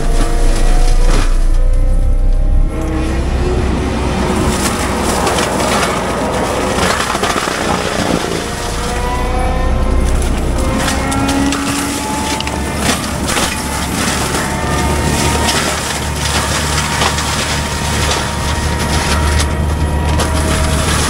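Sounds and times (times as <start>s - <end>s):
diesel engine running: 0.0s - 21.0s
wood cracking and splintering: 0.0s - 21.0s.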